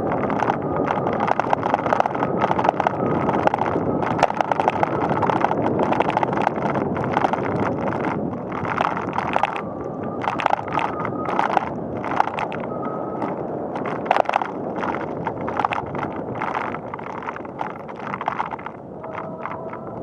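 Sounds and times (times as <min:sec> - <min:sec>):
bicycle rattling on pavement: 0:00.0 - 0:09.6, 0:10.2 - 0:20.0
wind buffeting microphone: 0:00.0 - 0:20.0.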